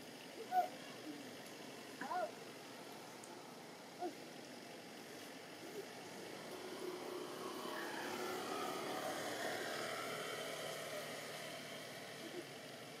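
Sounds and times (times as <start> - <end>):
background hiss: 0.0 - 13.0
vehicle engine hum: 0.0 - 13.0.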